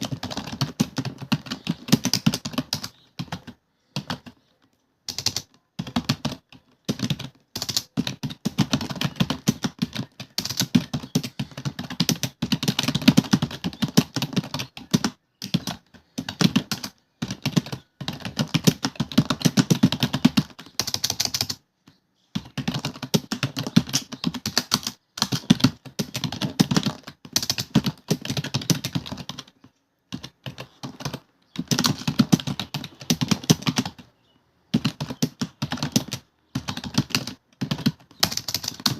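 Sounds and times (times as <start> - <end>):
typing on computer keyboard: 0.0 - 34.1, 34.7 - 38.9.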